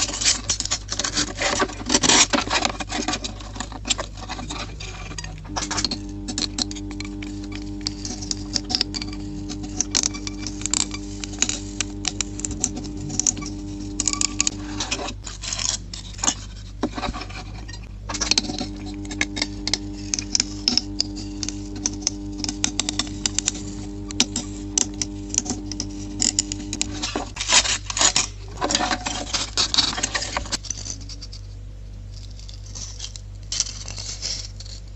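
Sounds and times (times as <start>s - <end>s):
small clicks taps and scrapes: 0.0s - 31.5s
steady hum: 1.4s - 30.6s.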